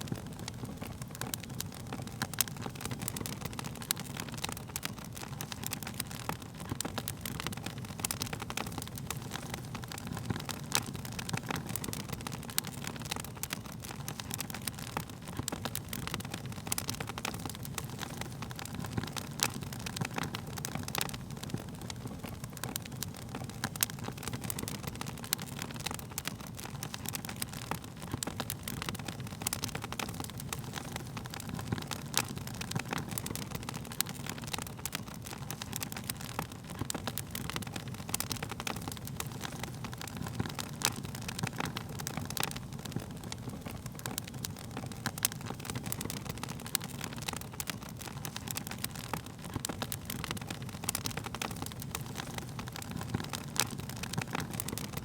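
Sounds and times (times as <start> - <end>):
burning wood popping and snapping: 0.0 - 55.0
low rumble of flames: 0.0 - 55.0.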